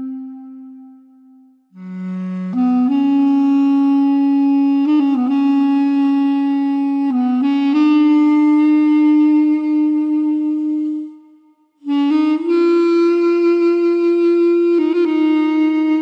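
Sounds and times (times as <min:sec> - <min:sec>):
wind instrument playing slow melody: 0:00.0 - 0:16.0.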